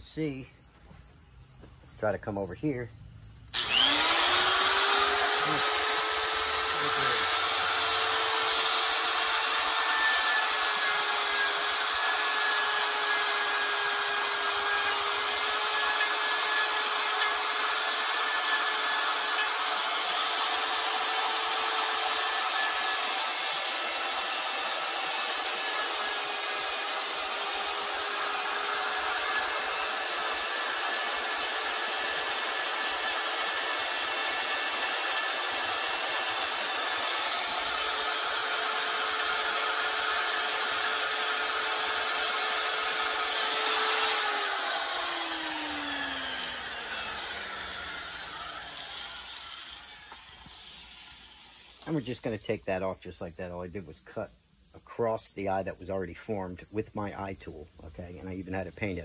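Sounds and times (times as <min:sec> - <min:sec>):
die grinder motor whine: 0:03.5 - 0:52.0
burr rasping into wood: 0:03.6 - 0:53.9.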